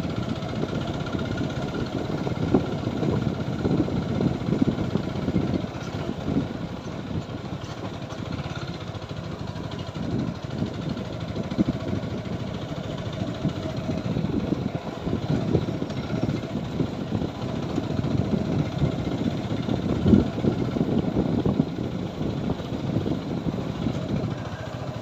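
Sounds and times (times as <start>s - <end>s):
motorcycle engine rumble: 0.0s - 25.0s.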